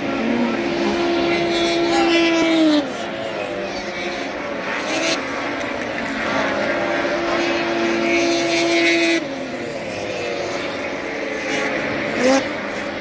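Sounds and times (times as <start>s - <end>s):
snowmobile engines whining: 0.0s - 13.0s.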